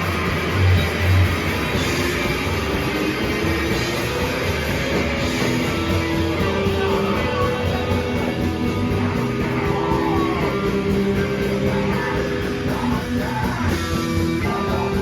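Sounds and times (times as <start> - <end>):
distorted electric guitars: 0.0 - 15.0
pounding drum kit: 0.0 - 15.0.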